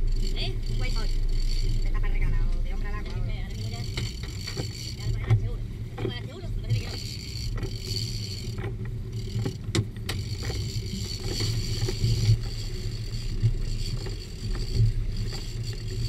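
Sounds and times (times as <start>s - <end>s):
boat engine running: 0.0s - 16.0s
water noise: 0.0s - 16.0s.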